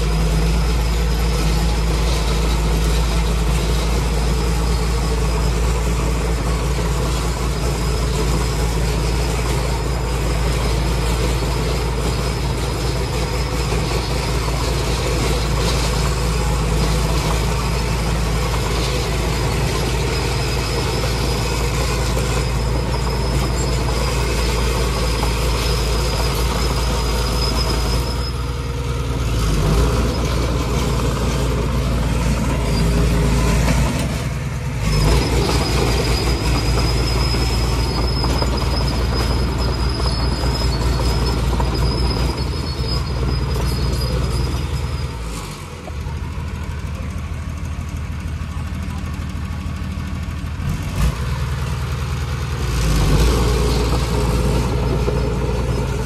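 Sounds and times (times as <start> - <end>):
blade pushing dirt: 0.0 - 45.6
bulldozer diesel engine running: 0.0 - 56.0.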